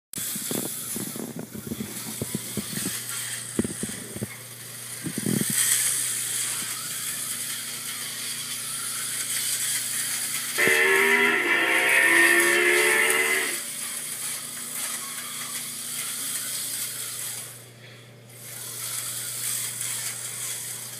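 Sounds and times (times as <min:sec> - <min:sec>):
electric motors buzzing whine: 0:00.6 - 0:20.9.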